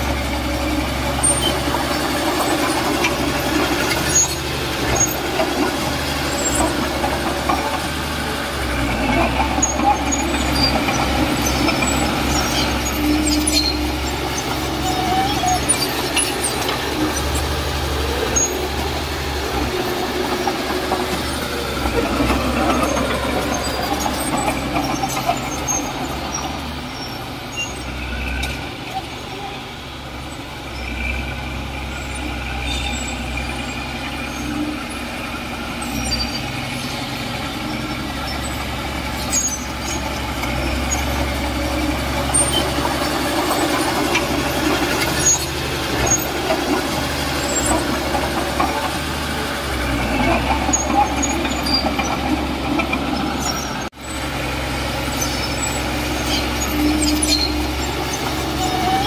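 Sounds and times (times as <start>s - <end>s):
heavy diesel machinery engine running: 0.0s - 59.0s.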